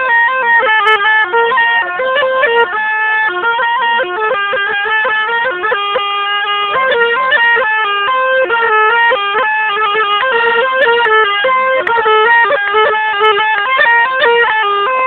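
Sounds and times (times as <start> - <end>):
shrill reedy wind instrument melody: 0.0 - 15.0.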